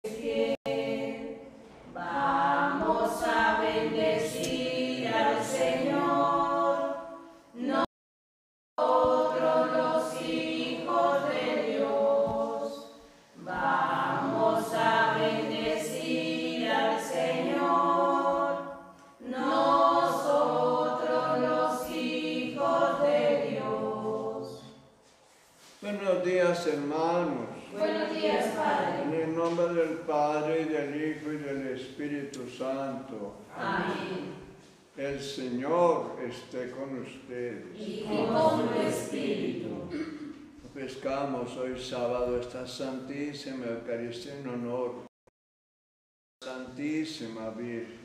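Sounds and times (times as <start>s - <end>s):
group singing a hymn unaccompanied: 0.0s - 7.9s, 8.8s - 25.7s, 26.6s - 42.5s.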